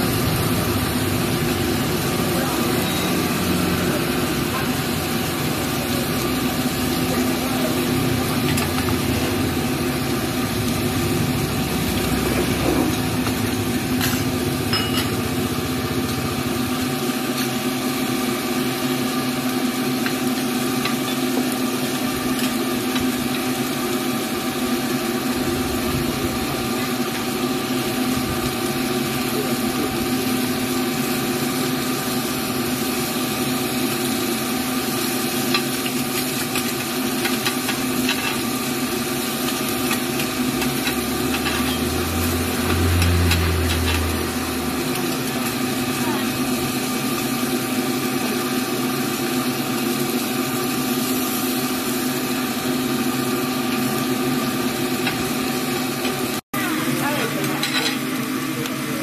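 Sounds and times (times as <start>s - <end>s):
food sizzling on a griddle: 0.0s - 59.0s
steady mechanical hum: 0.0s - 59.0s.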